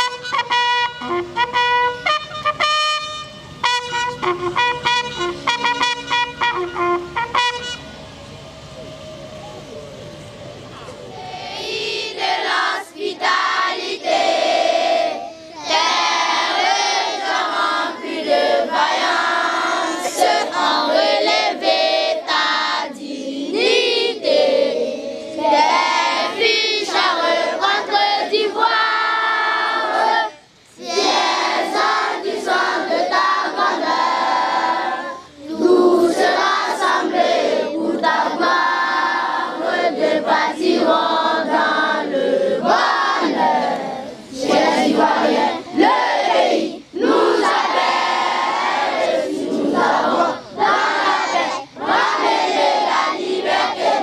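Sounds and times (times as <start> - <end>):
children singing in chorus: 10.6 - 54.0.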